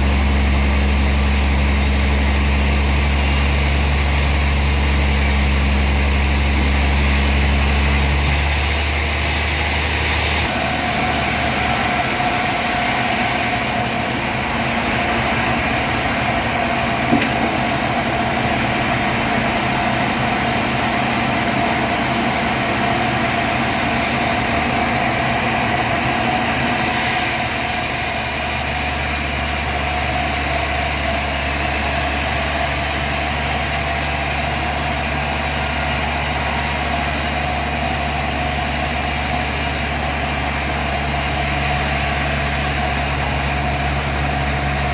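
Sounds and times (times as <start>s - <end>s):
machinery low hum: 0.0s - 44.9s
steady whine: 0.0s - 44.9s.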